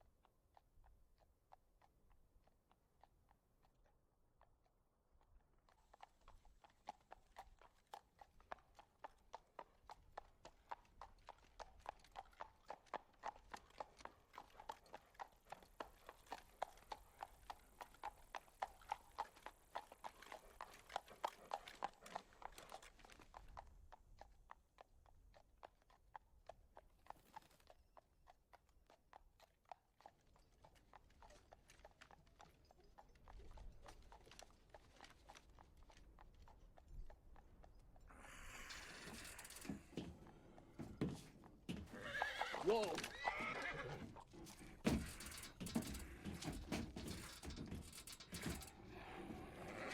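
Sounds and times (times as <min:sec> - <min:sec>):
horse hooves clip-clopping: 0:00.0 - 0:49.9.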